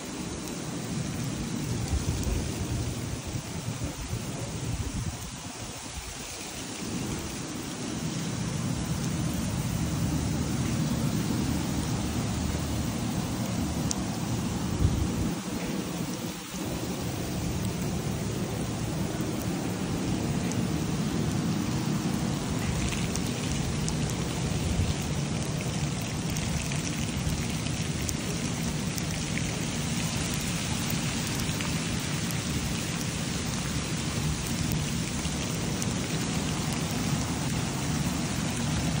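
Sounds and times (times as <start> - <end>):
rain hissing: 0.0 - 39.0
raindrop ticks: 0.2 - 3.4, 8.9 - 39.0.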